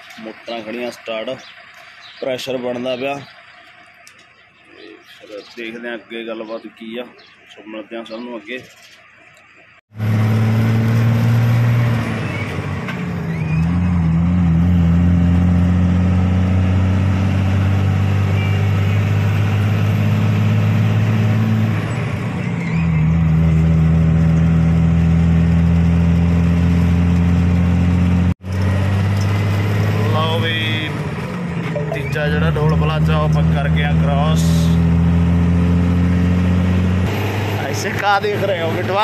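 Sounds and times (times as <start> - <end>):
truck diesel engine running: 0.0 - 8.2, 9.9 - 39.0.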